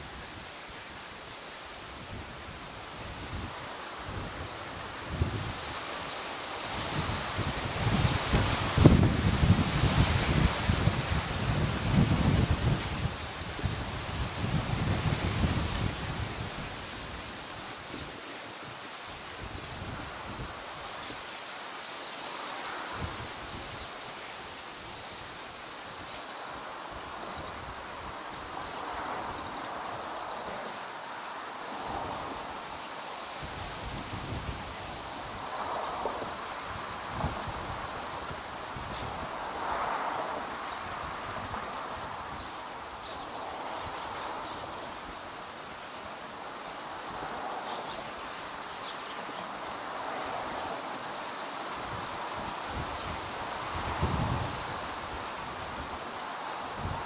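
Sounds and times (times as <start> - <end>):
rushing outdoor background noise: 0.0 - 57.0
rustling hiss: 0.0 - 57.0.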